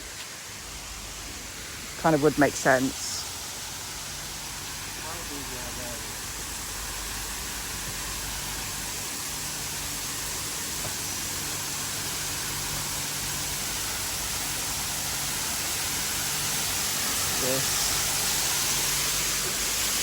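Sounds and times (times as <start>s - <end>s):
waterfall rushing: 0.5s - 20.0s.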